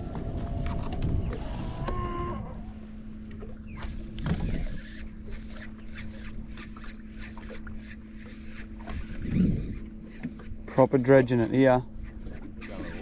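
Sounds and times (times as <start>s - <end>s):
electric motor humming: 0.0s - 10.6s.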